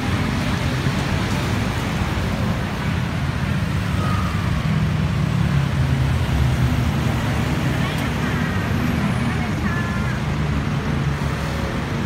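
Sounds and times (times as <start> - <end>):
tyre and road noise: 0.0 - 12.0
vehicle engines running: 0.0 - 12.0.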